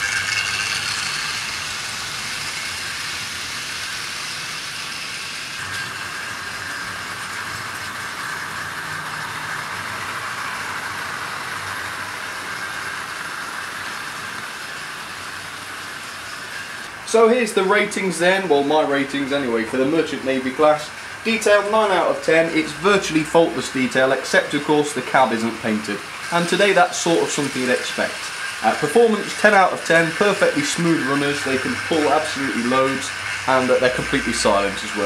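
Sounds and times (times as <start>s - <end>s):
model trains whirring on track: 0.0s - 35.0s.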